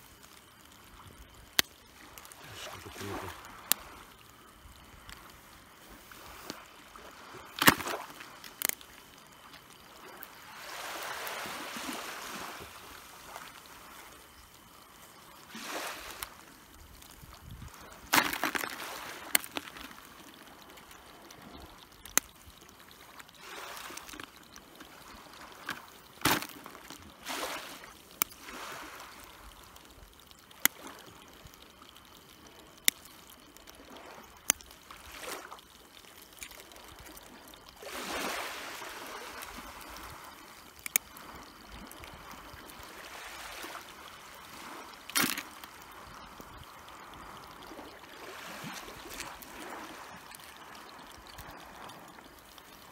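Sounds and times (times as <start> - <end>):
crabs clicking and knocking: 0.0 - 52.9
water splashing and sloshing: 0.0 - 52.9.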